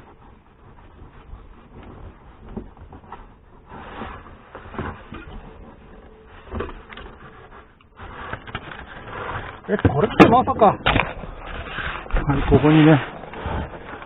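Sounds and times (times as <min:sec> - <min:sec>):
car trim rubbing and rustling: 0:00.0 - 0:14.0.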